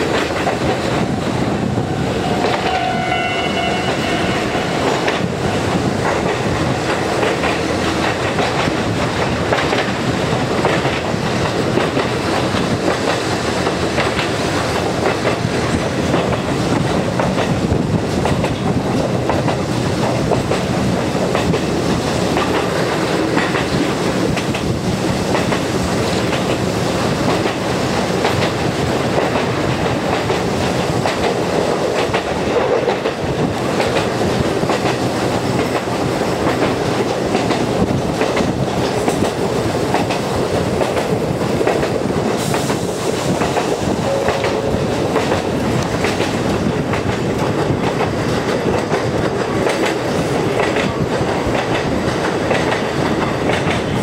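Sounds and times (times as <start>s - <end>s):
electric train rumbling: 0.0s - 54.0s
wheels clacking over rail joints: 2.2s - 54.0s.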